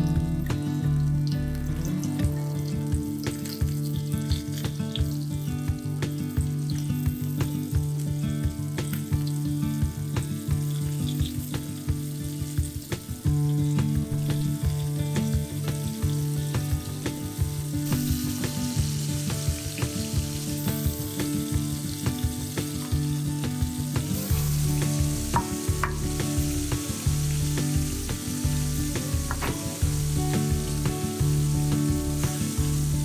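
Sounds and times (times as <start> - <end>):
background music with bass line: 0.0 - 33.0
fish frying in oil: 0.0 - 33.0.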